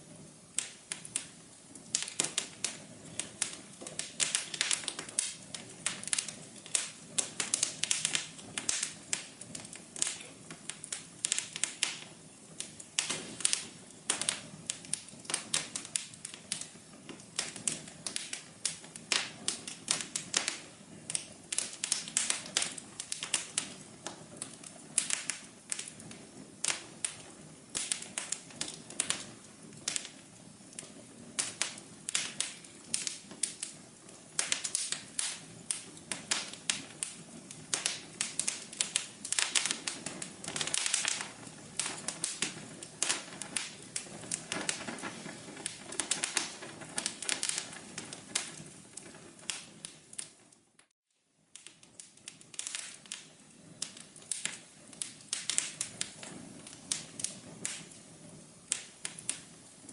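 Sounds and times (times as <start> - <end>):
fire crackling and popping: 0.0 - 59.9
low hiss of fire: 0.0 - 59.9.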